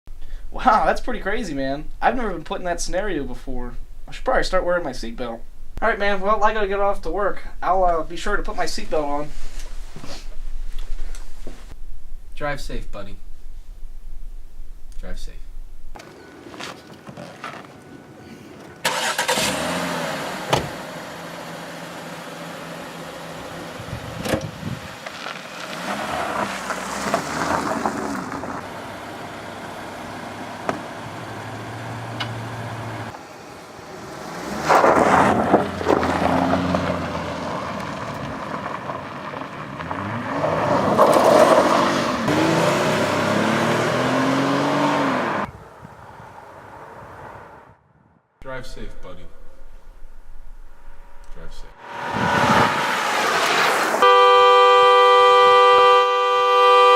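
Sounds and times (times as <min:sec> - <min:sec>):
car engine driving: 0:01.0 - 0:47.8, 0:49.0 - 0:56.9.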